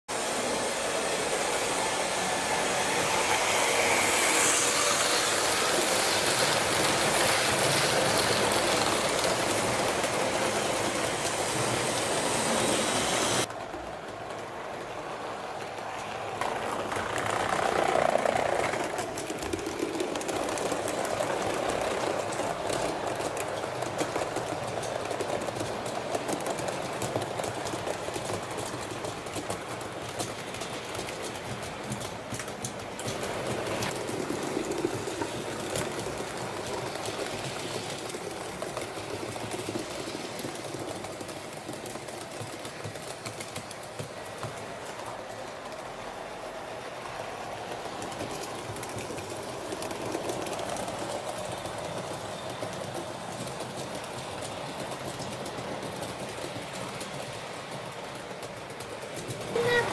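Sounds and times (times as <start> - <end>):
train wheels rattling on rails: 0.1 - 59.9.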